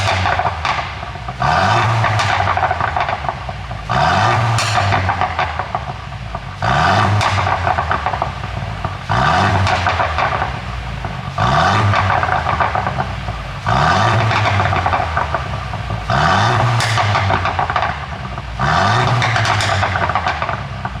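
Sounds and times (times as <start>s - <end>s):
car engine revving: 0.0s - 21.0s
exhaust pops and crackles: 0.0s - 21.0s.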